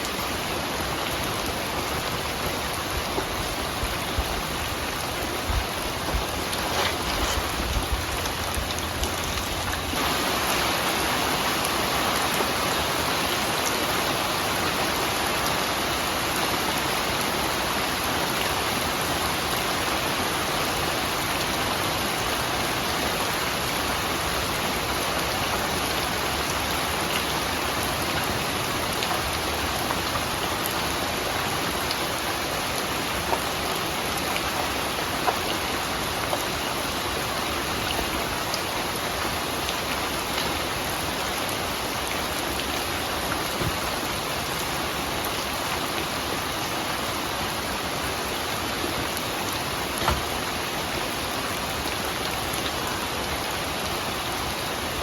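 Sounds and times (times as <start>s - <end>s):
dense rain hissing: 0.0s - 55.0s.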